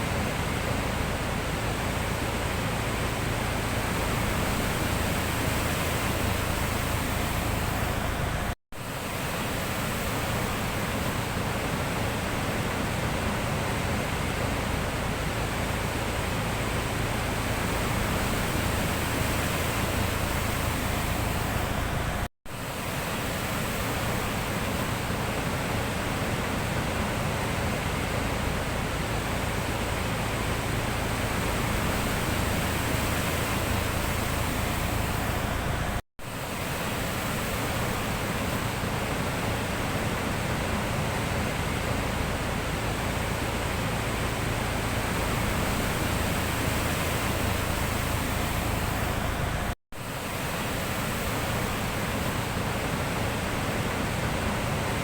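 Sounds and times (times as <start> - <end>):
sea surf: 0.0 - 55.0.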